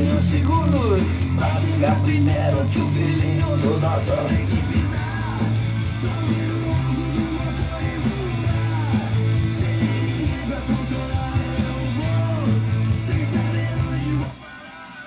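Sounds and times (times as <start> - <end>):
bass line: 0.0 - 14.5
guitar: 0.0 - 15.0
person singing: 0.0 - 15.0.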